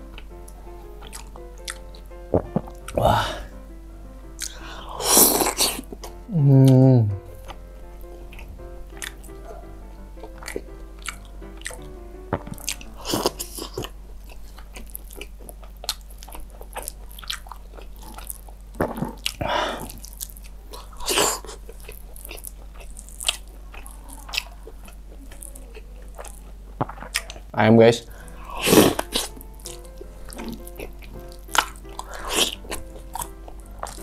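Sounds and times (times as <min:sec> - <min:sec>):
chewing with crunches: 0:00.0 - 0:03.5, 0:04.4 - 0:34.0.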